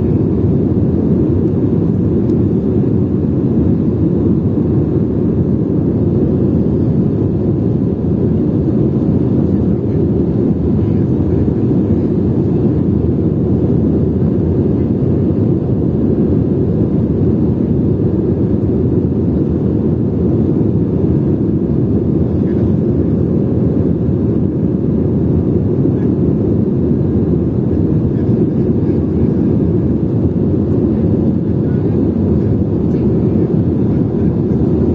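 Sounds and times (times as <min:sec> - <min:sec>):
jet engines droning: 0:00.0 - 0:34.9.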